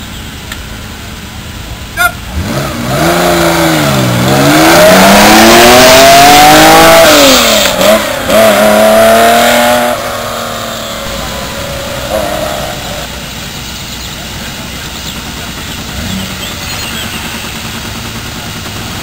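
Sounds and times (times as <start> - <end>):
car engine accelerating: 0.8 - 19.0.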